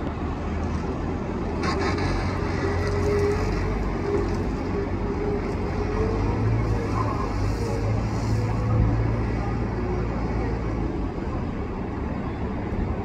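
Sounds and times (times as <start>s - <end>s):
loader engine humming: 0.0s - 13.0s.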